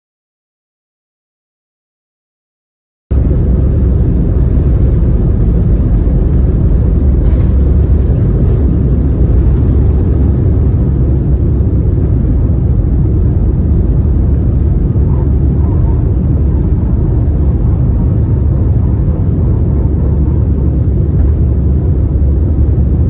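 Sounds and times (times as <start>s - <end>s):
airliner cabin engine roar: 3.1s - 23.0s.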